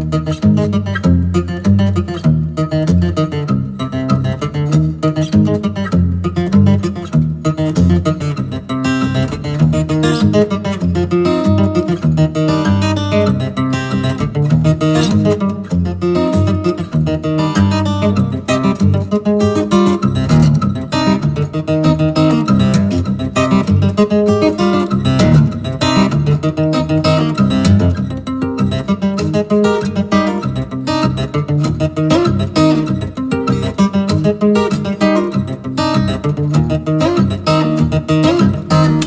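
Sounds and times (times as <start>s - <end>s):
acoustic guitar strumming: 0.0s - 39.0s.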